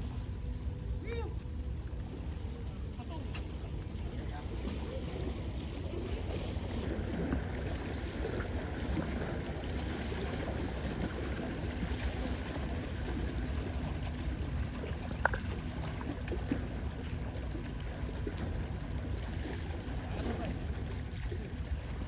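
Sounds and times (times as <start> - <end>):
water rumble: 0.0 - 22.0
wind: 0.0 - 22.0.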